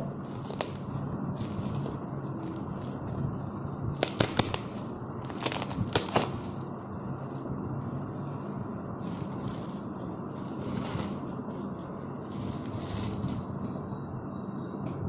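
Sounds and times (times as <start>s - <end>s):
plastic wrapping crinkling: 0.0s - 13.7s.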